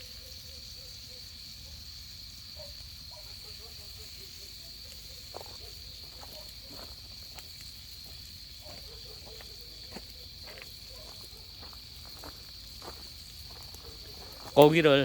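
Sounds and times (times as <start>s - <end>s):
crickets chirping: 0.0s - 15.0s
wood fire crackling: 0.0s - 15.0s.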